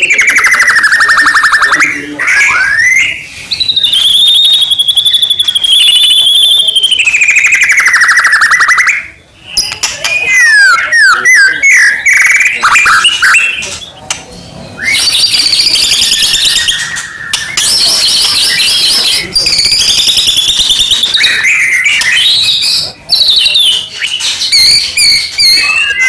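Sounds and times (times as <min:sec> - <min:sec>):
songbird singing whistled notes: 0:00.0 - 0:14.1, 0:14.7 - 0:26.0.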